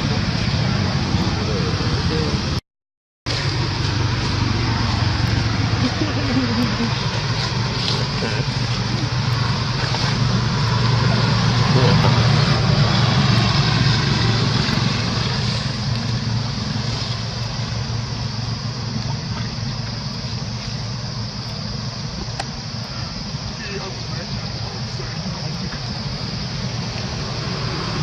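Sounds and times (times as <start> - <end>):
vehicle engine passing by: 3.3 - 28.0.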